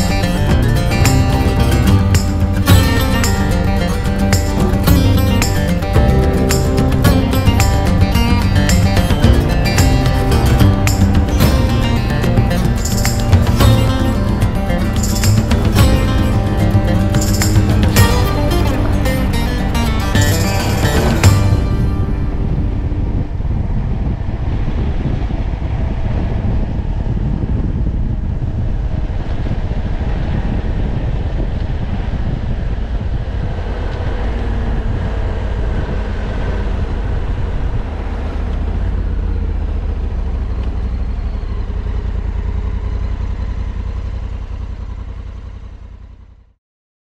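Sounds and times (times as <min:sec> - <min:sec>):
wind rumble on microphone: 0:00.0 - 0:42.8
motorcycle engine running: 0:00.0 - 0:46.5.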